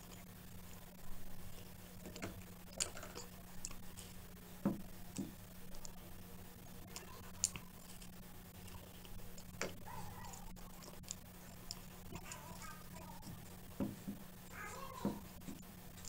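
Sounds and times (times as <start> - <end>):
puff pastry crackling: 0.0 - 16.0.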